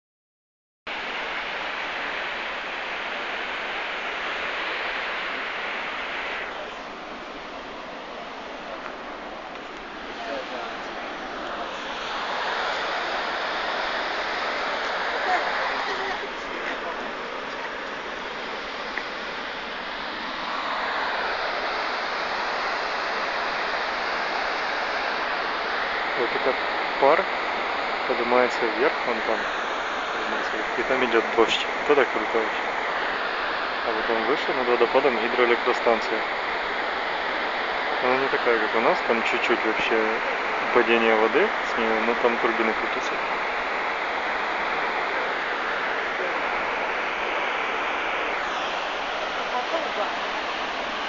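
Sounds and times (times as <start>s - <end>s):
large waterfall rushing: 0.9s - 51.0s.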